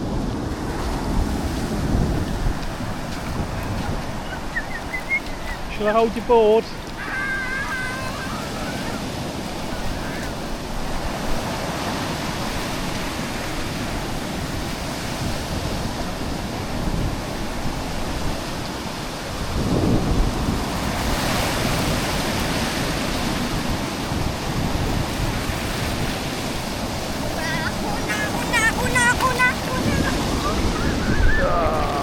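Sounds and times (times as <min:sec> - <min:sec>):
sea surf breaking on shore: 0:00.0 - 0:32.0
wind buffeting microphone: 0:00.0 - 0:32.0.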